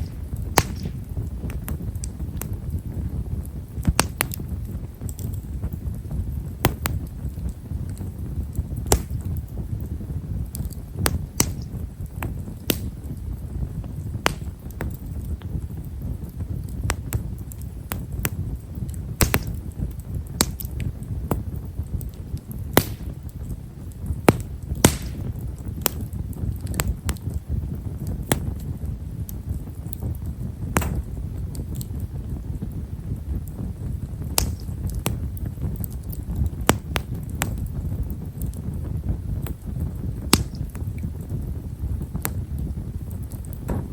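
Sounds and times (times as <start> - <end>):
fire crackles and pops: 0.0 - 43.9
low rumble of flames: 0.0 - 43.9.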